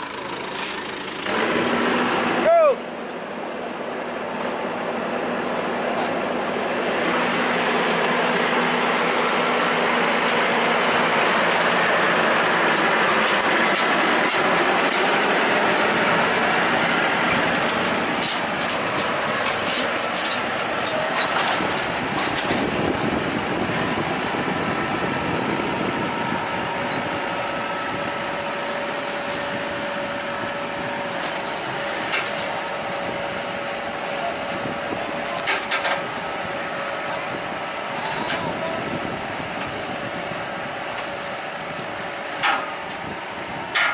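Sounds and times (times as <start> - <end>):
combine harvester engine running: 0.0 - 43.9.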